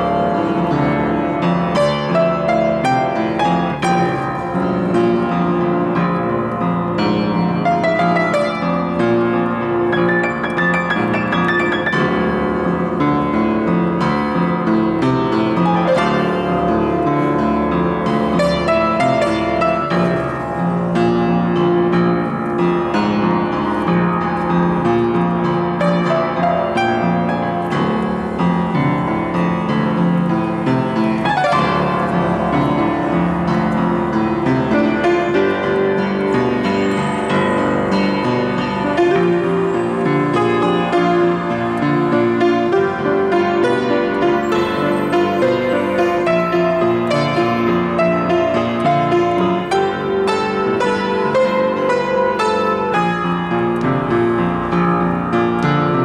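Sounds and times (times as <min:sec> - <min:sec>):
upright piano playing: 0:00.0 - 0:56.0.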